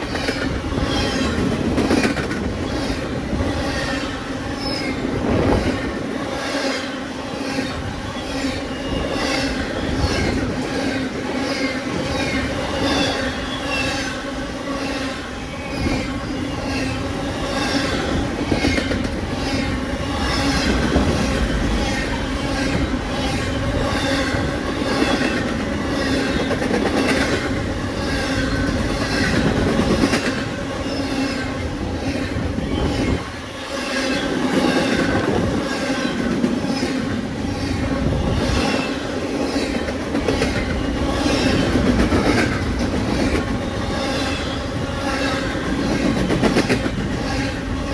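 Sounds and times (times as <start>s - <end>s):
train wheels clattering on rails: 0.0s - 47.9s
train wheels squealing: 0.0s - 47.9s.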